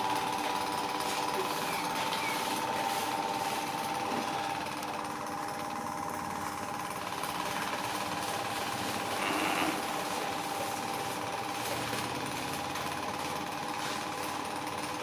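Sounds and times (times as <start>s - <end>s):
electric power tool buzzing: 0.0s - 15.0s.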